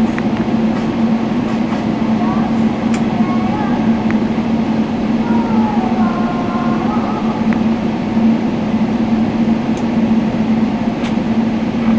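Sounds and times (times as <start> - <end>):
airliner cabin drone: 0.0 - 11.9.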